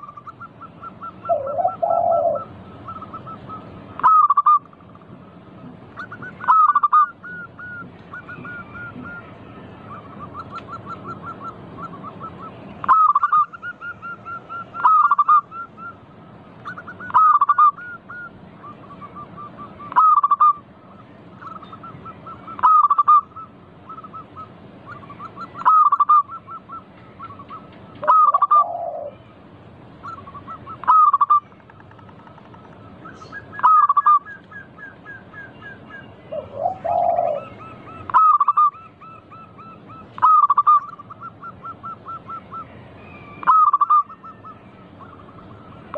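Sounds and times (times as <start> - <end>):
doves cooing: 0.0 - 45.9.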